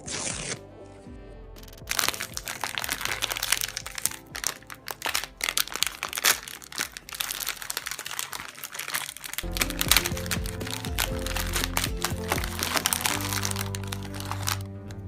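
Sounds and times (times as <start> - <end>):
plastic packaging crinkling: 1.9 - 15.0.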